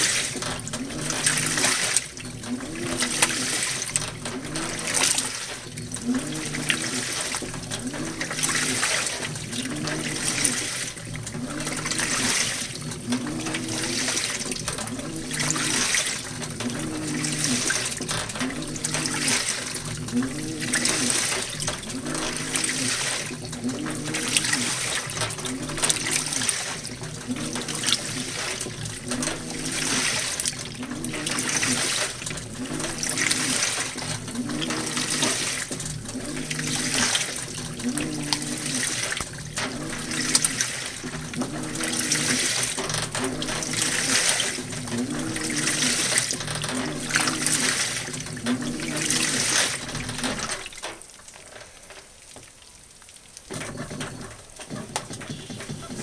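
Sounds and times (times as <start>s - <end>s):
washer motor whine: 0.0s - 52.5s, 53.2s - 56.0s
water and laundry sloshing: 0.0s - 56.0s.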